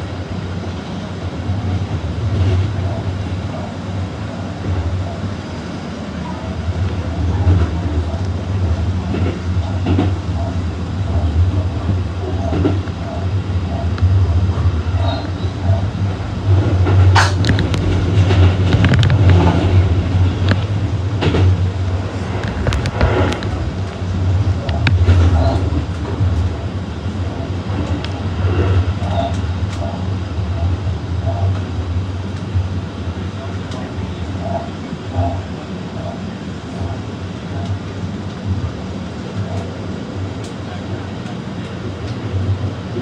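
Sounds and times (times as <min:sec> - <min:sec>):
train hum and rumble: 0:00.0 - 0:43.0.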